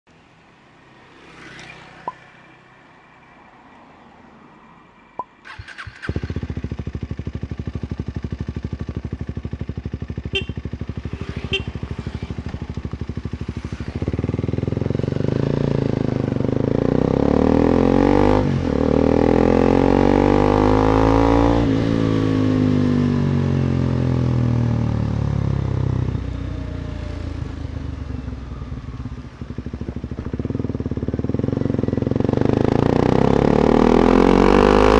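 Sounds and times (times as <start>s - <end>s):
motorcycle engine idling and revving: 0.1s - 3.4s, 5.2s - 34.9s.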